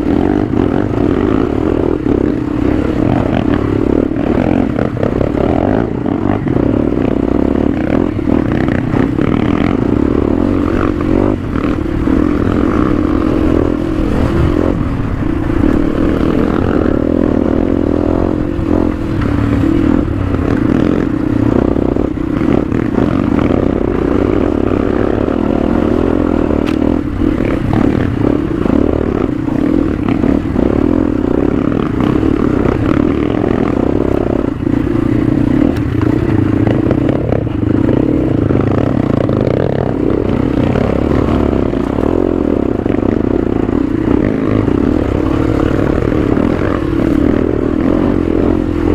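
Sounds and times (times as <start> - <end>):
bike rattling and scraping: 0.0 - 48.9
motorcycle engine running: 0.0 - 48.9.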